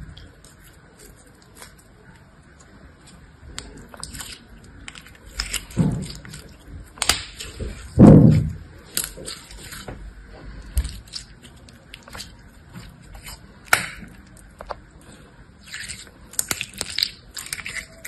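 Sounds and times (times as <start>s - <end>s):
slime squelching in a hand: 0.1s - 18.0s.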